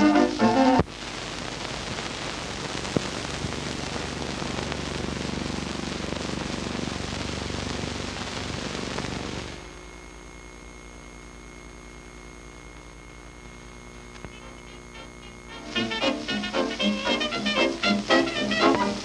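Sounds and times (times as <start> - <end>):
faint low hum: 0.0 - 19.0
film soundtrack hiss and crackle: 0.0 - 19.0.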